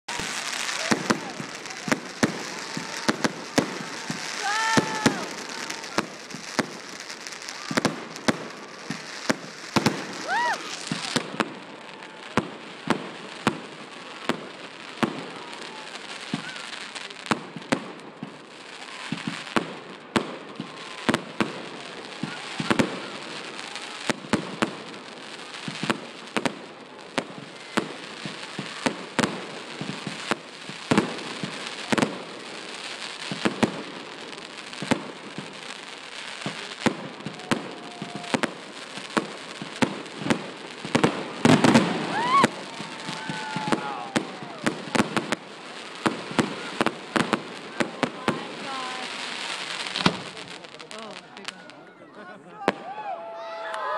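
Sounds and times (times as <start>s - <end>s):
fireworks bangs and pops: 0.0s - 51.9s
fireworks crackling: 0.0s - 53.9s.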